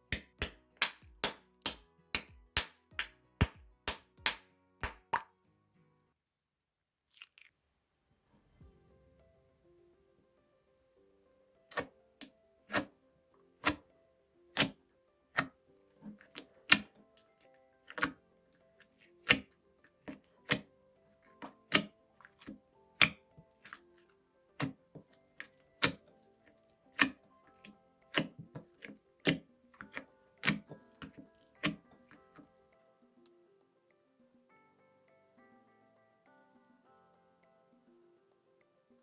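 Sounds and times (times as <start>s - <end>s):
soft background music: 0.0s - 6.2s, 8.1s - 39.0s.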